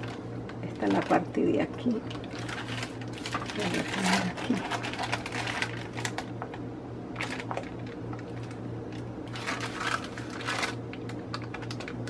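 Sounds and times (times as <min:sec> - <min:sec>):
parchment paper rustling: 0:00.0 - 0:06.6, 0:07.2 - 0:12.0.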